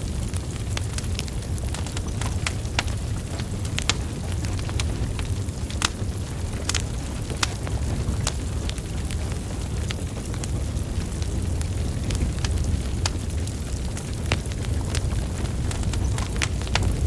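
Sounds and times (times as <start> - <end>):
burning logs crackling: 0.0 - 17.0
low rumble of flames: 0.0 - 17.0.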